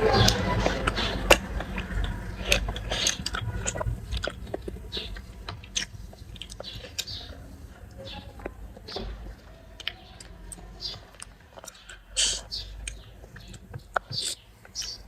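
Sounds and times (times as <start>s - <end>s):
person chewing noodles: 0.2s - 9.0s, 9.8s - 15.0s.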